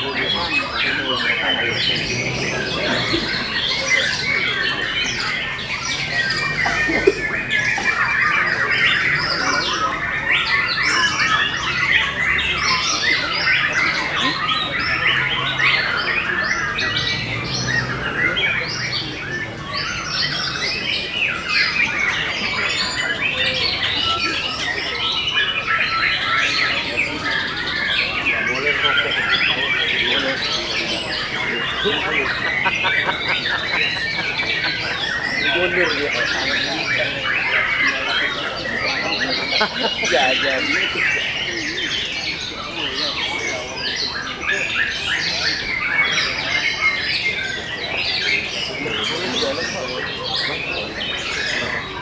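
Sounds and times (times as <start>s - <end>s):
canaries singing: 0.0s - 52.0s.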